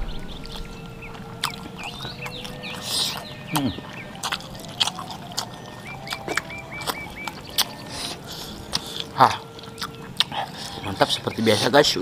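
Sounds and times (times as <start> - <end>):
chewing with wet smacks: 0.4 - 12.0.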